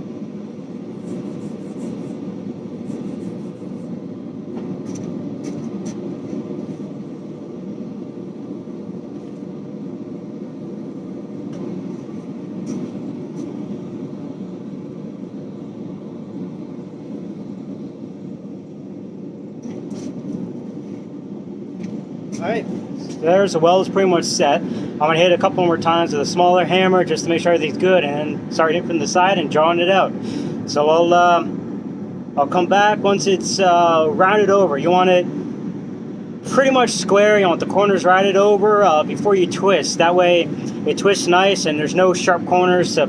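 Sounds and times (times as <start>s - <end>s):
forge roaring: 6.1s - 43.0s.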